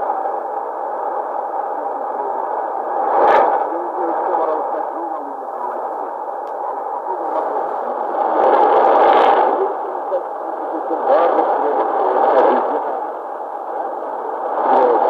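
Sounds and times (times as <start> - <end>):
faint radio broadcast: 0.0 - 15.0
radio static hiss: 0.0 - 15.0
static crackle: 0.0 - 15.0.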